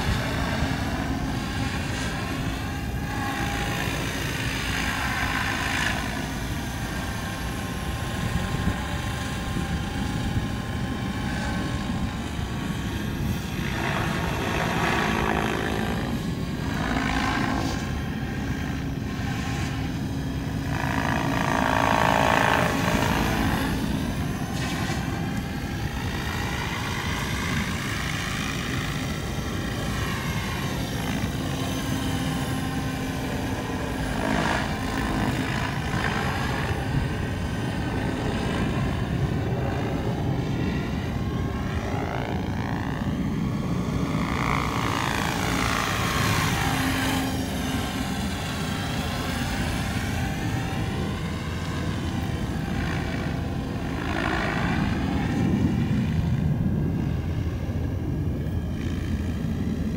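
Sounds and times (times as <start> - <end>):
rc helicopter rotor whine: 0.0 - 59.9.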